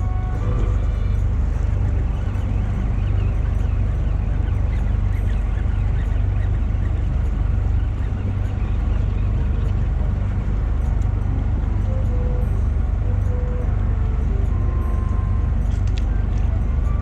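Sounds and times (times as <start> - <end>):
boat engine rumbling: 0.0 - 17.0
wind and water hiss: 0.0 - 17.0.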